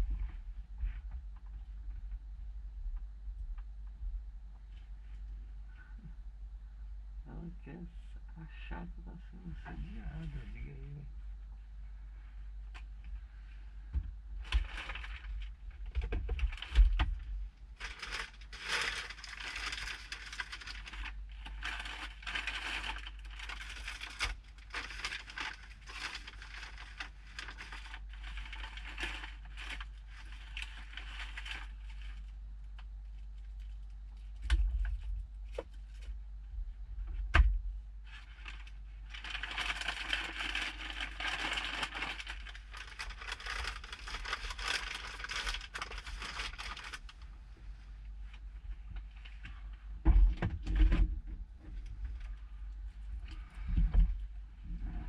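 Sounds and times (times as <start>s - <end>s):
low rumble: 0.0s - 55.0s
rustling and crackling: 9.6s - 55.0s.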